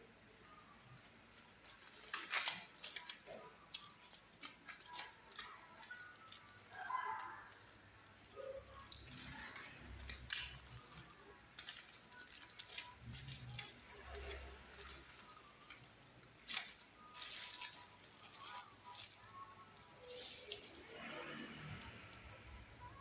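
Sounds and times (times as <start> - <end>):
packaging rustling: 0.8 - 23.0.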